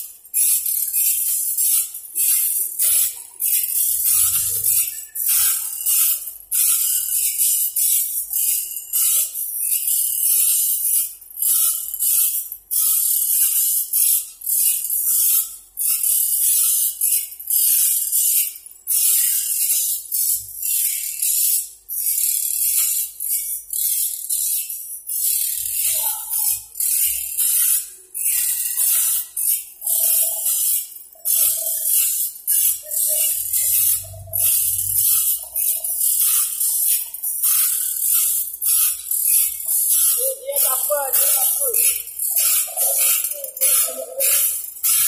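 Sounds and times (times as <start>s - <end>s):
blade sharpening machines grinding: 0.0s - 45.0s.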